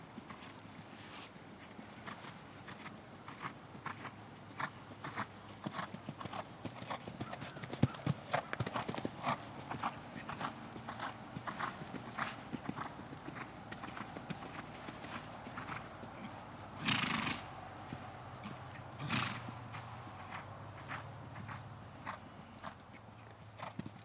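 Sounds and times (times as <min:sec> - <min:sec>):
horse hoofbeats on sand: 0:01.6 - 0:24.0.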